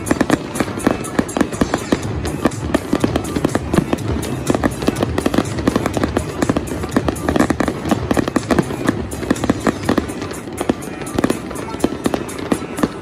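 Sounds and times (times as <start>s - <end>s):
fireworks bursting and crackling: 0.0s - 13.0s
music playing: 0.0s - 13.0s.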